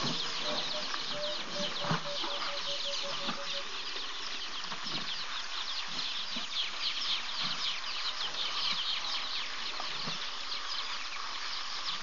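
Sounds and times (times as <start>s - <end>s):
birds and insects chirping: 0.0s - 12.0s.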